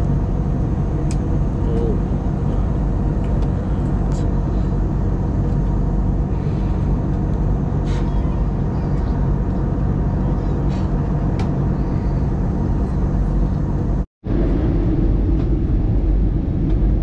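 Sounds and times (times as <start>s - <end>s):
jet engine and airflow noise: 0.0s - 17.0s.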